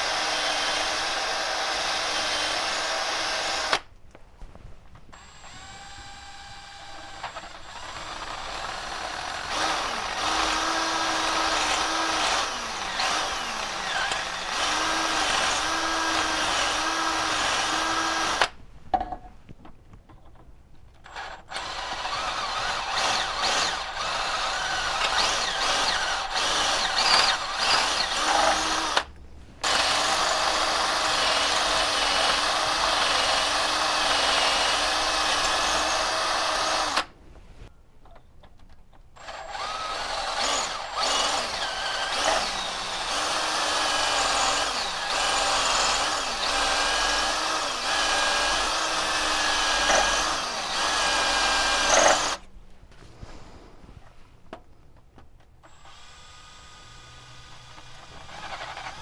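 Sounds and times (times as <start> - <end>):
cordless drill boring metal: 0.0 - 3.8, 5.1 - 18.5, 21.0 - 37.1, 39.2 - 52.4, 55.6 - 59.0.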